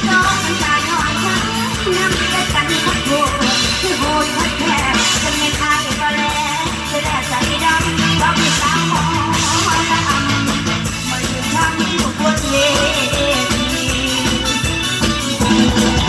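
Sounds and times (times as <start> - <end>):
bass notes: 0.0 - 16.0
steady drum beat: 0.0 - 16.0.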